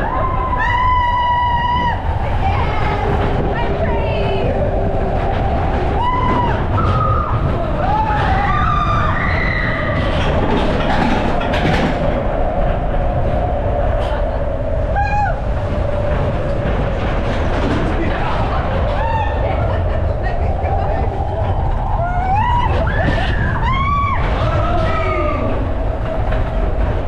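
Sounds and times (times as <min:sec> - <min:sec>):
roller coaster car rumbling: 0:00.0 - 0:27.0.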